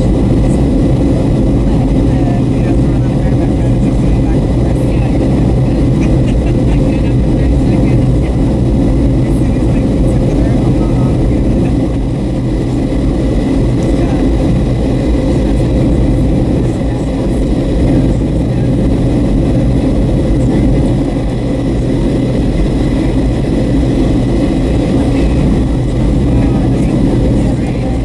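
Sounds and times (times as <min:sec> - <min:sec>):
airliner cabin engine rush: 0:00.0 - 0:28.0.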